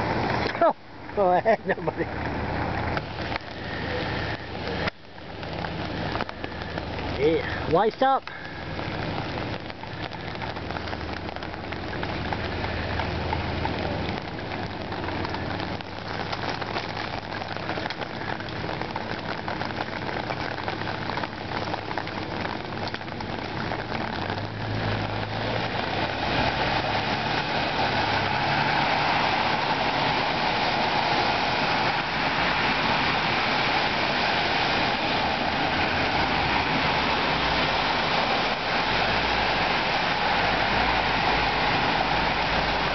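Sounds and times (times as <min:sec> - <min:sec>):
heavy rain: 0:00.0 - 0:42.9
tyres splashing through water: 0:00.0 - 0:42.9.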